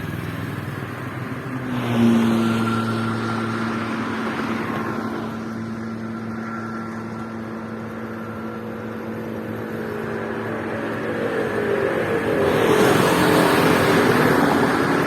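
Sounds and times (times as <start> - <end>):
engine hum and road noise: 0.0 - 15.0
vehicles passing: 0.0 - 15.0.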